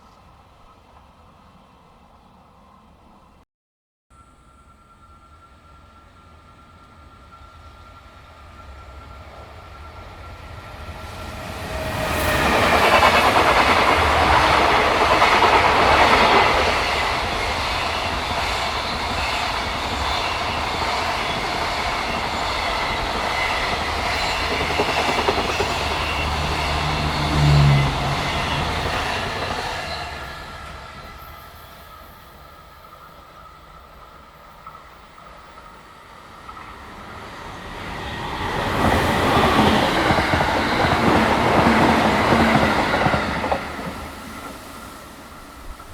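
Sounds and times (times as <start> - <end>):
freight train passing: 0.0 - 3.4, 4.2 - 45.9.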